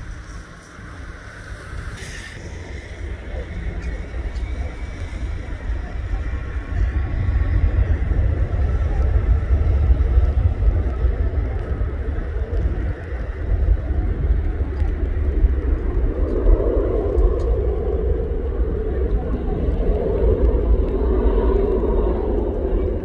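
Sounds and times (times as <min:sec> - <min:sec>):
deep rumble: 0:00.0 - 0:23.0
jet engine roar: 0:00.0 - 0:23.0.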